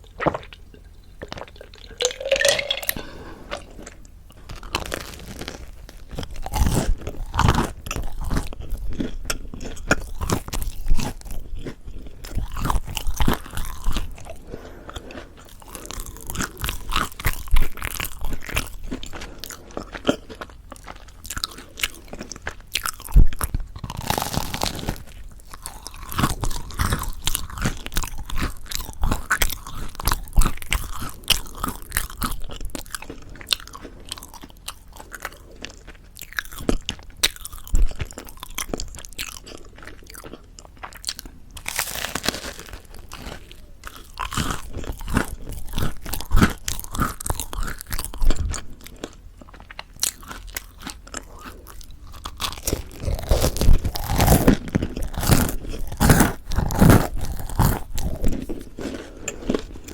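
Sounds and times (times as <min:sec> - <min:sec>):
crunching and chewing bread: 0:00.0 - 0:59.9.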